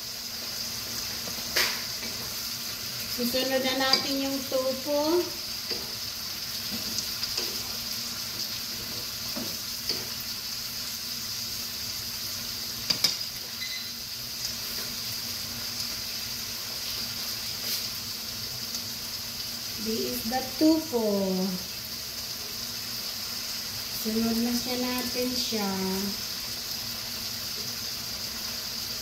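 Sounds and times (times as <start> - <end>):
vegetables sizzling in a frying pan: 0.0 - 29.0.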